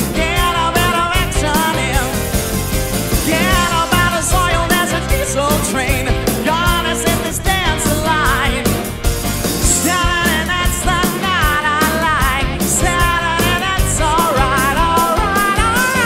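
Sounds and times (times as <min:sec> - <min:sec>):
man singing vocal runs: 0:00.0 - 0:02.4, 0:03.2 - 0:08.9, 0:09.6 - 0:16.0
live band playing soul-pop: 0:00.0 - 0:16.0.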